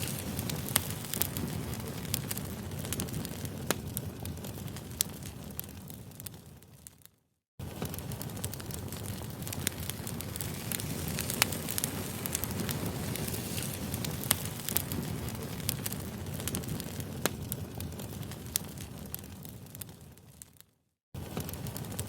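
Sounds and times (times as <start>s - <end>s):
campfire crackling: 0.0s - 20.6s, 21.2s - 22.0s.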